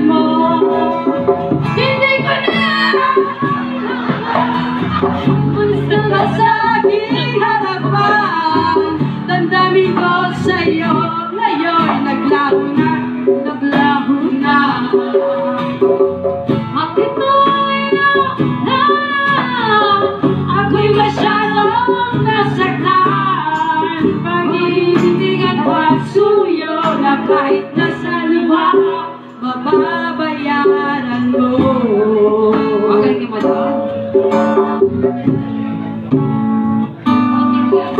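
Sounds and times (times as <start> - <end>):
women singing: 0.0 - 15.8, 16.7 - 34.8
acoustic guitar: 0.0 - 37.9
hand drum: 0.0 - 37.9.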